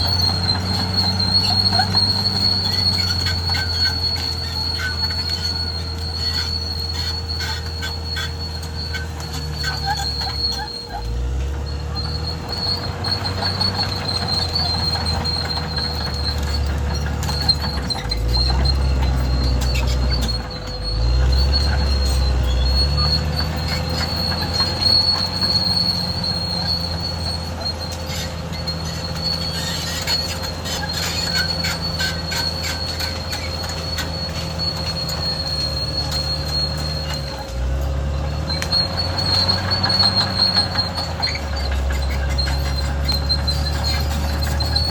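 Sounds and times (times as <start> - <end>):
diesel engine under load: 0.0 - 44.9
steel tracks squealing: 0.0 - 44.9.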